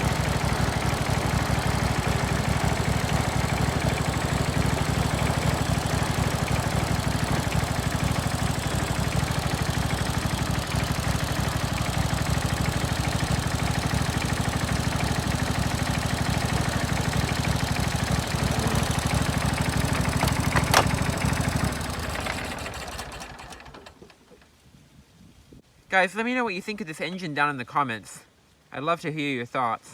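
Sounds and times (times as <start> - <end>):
engine running down to a stop: 0.0 - 24.2
riding mower engine running: 0.0 - 24.3.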